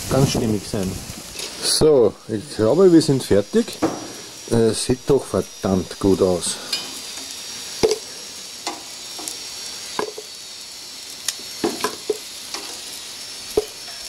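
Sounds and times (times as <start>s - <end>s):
food sizzling on a grill: 0.0s - 14.0s.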